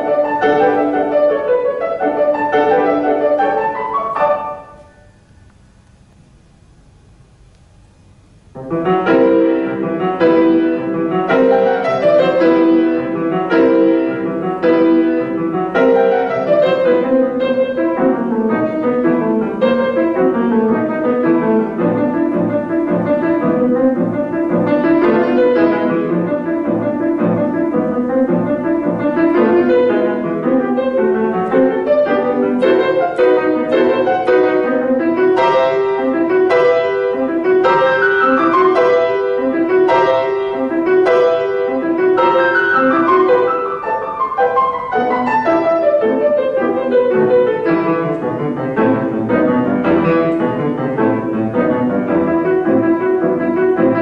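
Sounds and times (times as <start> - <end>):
grand piano playing: 0.0 - 5.8, 8.1 - 54.0.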